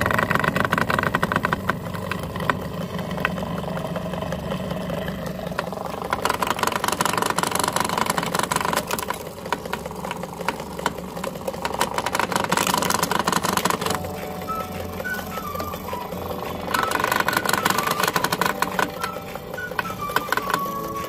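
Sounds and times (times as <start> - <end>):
crackle of grinding clicks: 0.0 - 21.0
meat grinder motor humming: 0.0 - 21.0.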